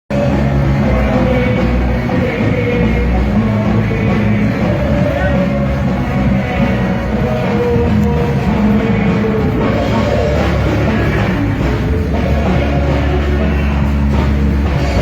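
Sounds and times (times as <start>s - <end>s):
live rock band playing: 0.1s - 15.0s.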